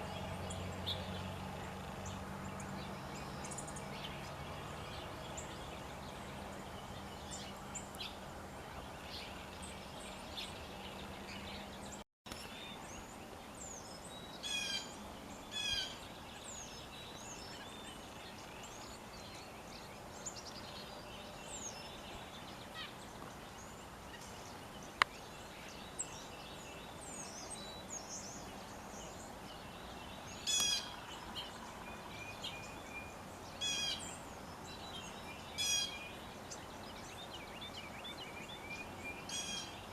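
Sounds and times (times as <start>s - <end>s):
steady background hiss: 0.0s - 39.9s
wild birds chirping and whistling: 0.0s - 39.9s.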